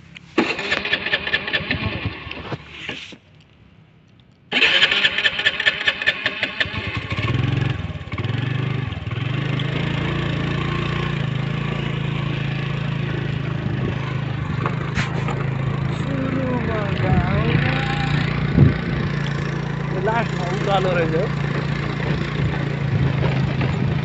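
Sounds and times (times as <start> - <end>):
motorcycle engine starting and idling: 0.1 - 3.2, 4.5 - 24.0.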